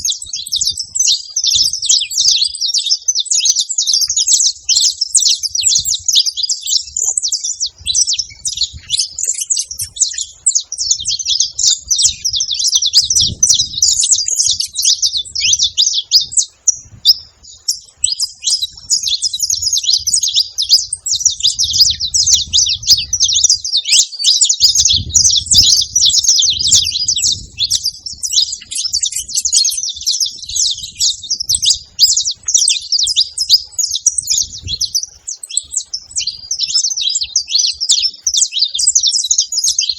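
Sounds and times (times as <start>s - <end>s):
finch twittering: 0.0s - 39.9s.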